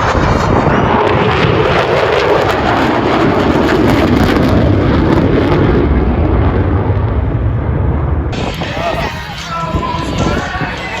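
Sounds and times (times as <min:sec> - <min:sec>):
fighter jet roaring flyby: 0:00.0 - 0:11.0.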